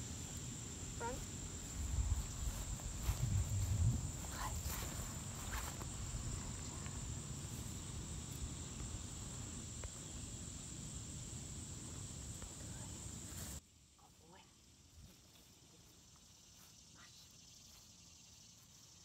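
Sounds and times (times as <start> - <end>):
insects singing: 0.0 - 19.0.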